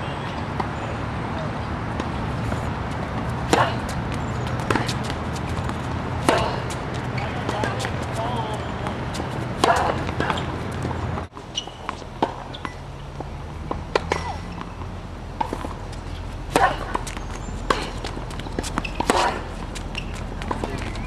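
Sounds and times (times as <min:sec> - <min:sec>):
rackets striking tennis ball: 0:00.1 - 0:21.0
tennis ball bouncing on court: 0:00.2 - 0:21.0.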